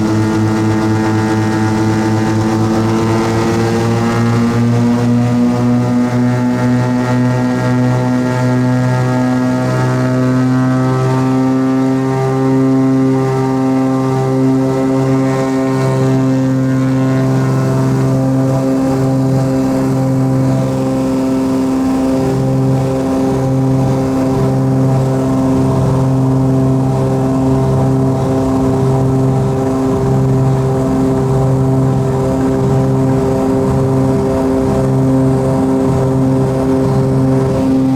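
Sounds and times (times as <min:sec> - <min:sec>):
twin propeller engines droning: 0:00.0 - 0:37.9.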